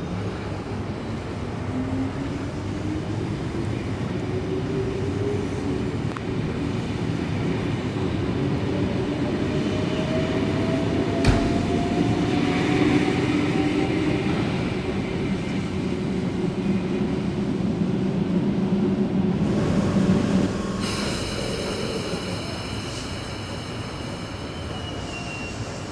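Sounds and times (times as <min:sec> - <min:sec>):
train running noise: 0:00.0 - 0:25.9.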